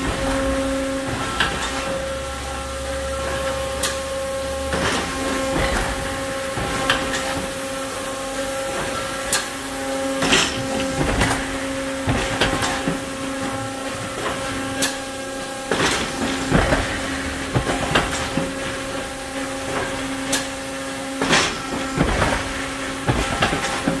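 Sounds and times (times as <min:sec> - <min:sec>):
factory machinery humming: 0:00.0 - 0:24.0.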